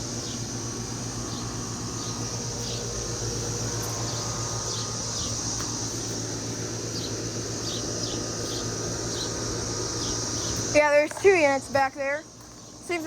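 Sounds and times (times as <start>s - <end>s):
air conditioner condenser running: 0.0s - 13.0s
steady high buzz: 0.0s - 13.0s.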